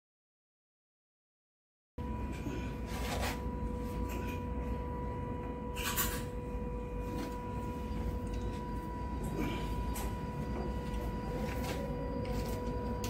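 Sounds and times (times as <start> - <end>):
faint steady whine: 2.0 - 13.0
steady low hum: 2.0 - 13.0.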